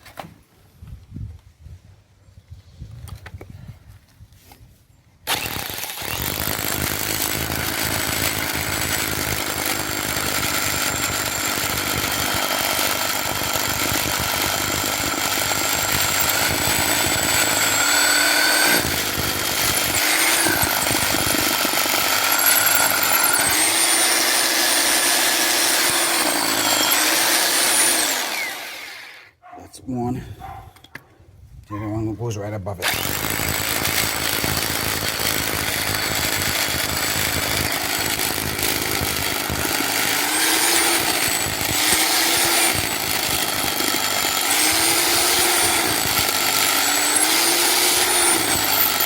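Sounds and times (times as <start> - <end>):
electric drill boring into concrete: 5.3 - 29.3, 32.8 - 49.0.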